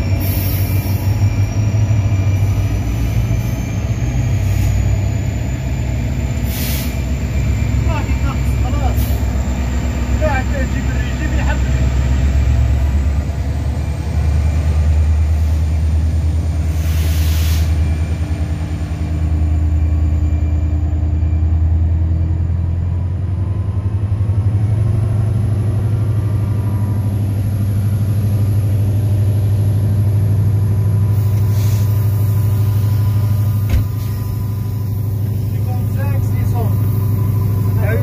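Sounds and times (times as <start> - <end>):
locomotive diesel engine drone: 0.0 - 38.0.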